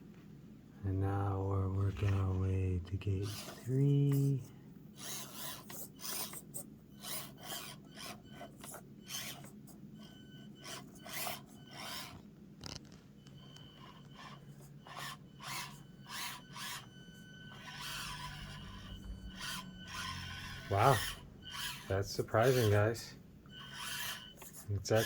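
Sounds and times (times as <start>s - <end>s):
rasping scrapes of toy tyres: 3.1s - 12.8s, 13.6s - 25.0s
small motor whine: 3.1s - 25.0s.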